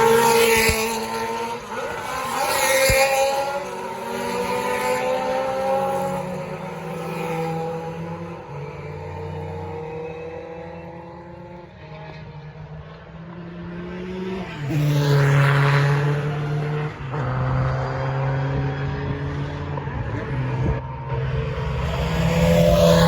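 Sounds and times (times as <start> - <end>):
racing car engines revving: 0.0 - 23.0
racing car passing by: 0.0 - 23.0.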